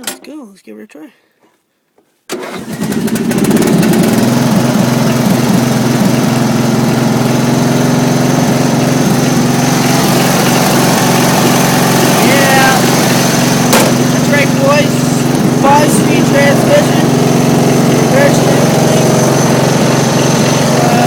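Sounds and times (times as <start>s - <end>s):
lawn tractor engine running: 2.3s - 21.0s.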